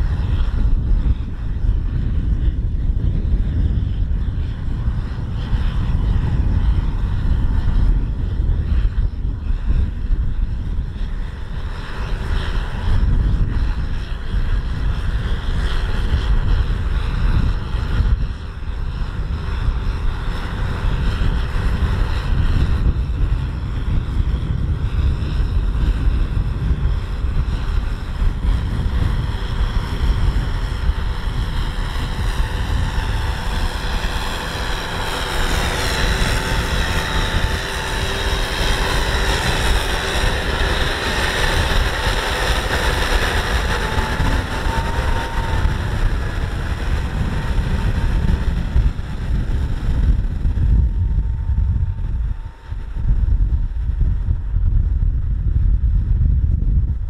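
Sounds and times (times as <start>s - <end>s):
machine whine: 0.0s - 56.3s
combine harvester engine drone: 0.0s - 57.0s.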